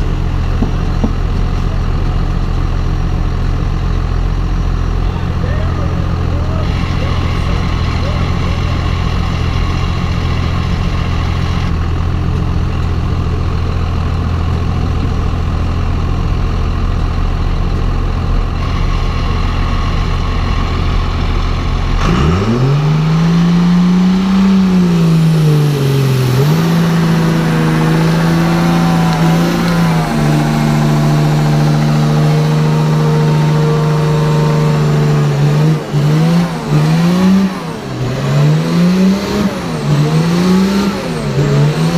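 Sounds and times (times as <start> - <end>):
pickup truck engine revving: 0.0 - 41.9.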